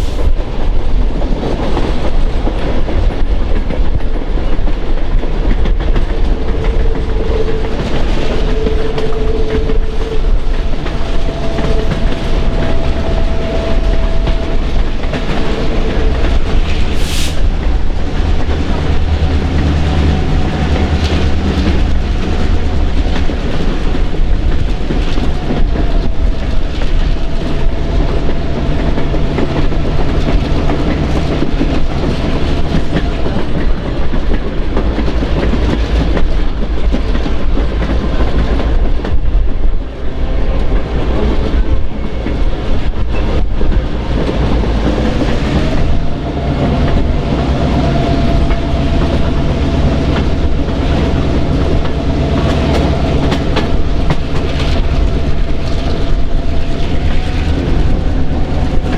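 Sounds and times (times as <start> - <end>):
train wheels clicking over joints: 0.0 - 58.9.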